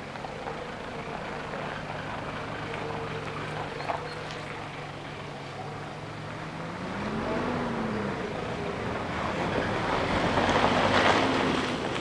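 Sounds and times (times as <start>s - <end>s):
diesel train engine hum: 0.0s - 12.0s.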